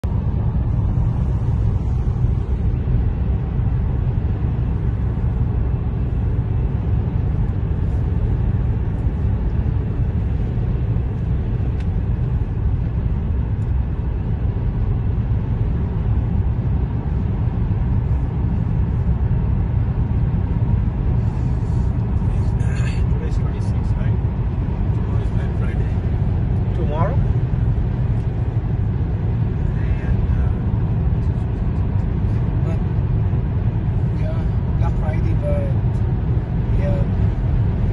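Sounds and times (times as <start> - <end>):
car road noise: 0.0 - 37.9
engine hum: 0.0 - 37.9.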